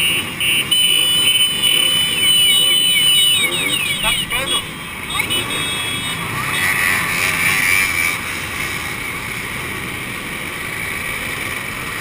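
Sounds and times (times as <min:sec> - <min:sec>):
two-stroke motorcycle engines running: 0:00.0 - 0:12.0.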